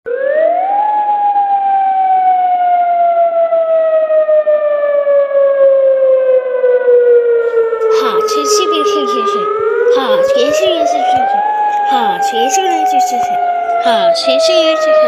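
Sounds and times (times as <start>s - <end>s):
civil defence siren falling tone: 0.1s - 15.0s.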